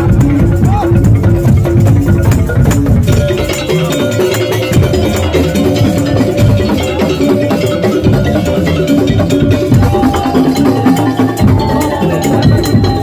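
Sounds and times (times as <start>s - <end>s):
slit drums and drums rhythm: 0.0s - 13.0s.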